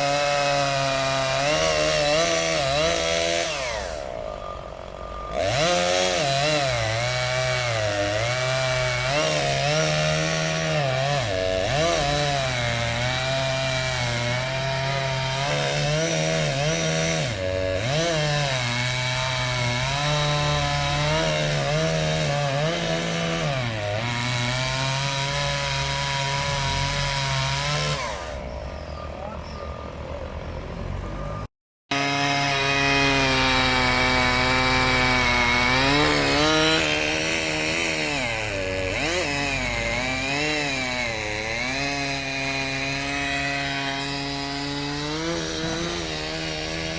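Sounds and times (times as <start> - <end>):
chainsaw cutting: 0.0 - 4.3, 5.1 - 28.5, 31.9 - 46.9.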